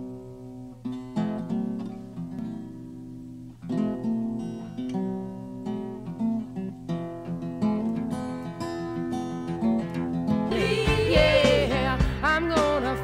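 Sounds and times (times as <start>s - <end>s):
acoustic guitar picking and strumming: 0.0s - 13.0s.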